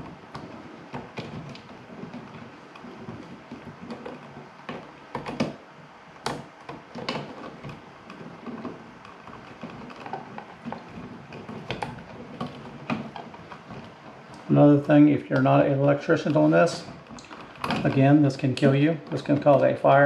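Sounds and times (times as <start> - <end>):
copper wires rustling and clicking: 0.0 - 20.0.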